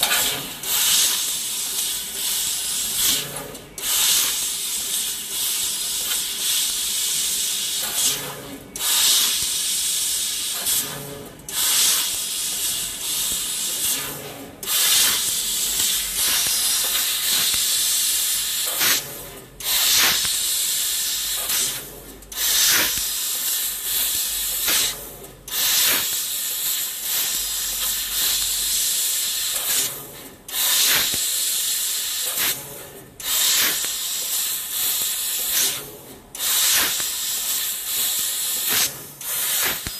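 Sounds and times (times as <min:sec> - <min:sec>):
laser cutting machine hiss: 0:00.0 - 0:39.9.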